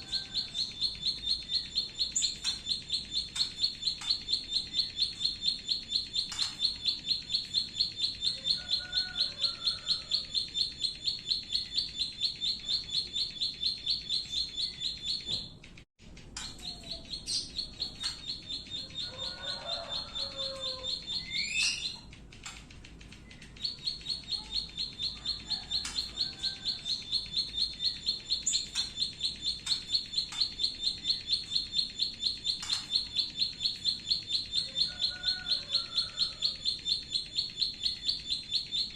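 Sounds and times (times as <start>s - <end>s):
other birds chirping: 0.0s - 38.9s
songbird rapid clicking call: 0.1s - 38.9s.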